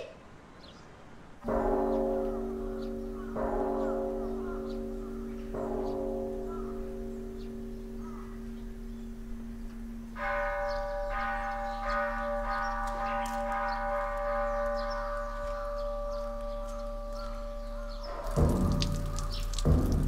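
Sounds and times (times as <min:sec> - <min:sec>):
low bell humming: 0:01.5 - 0:20.0.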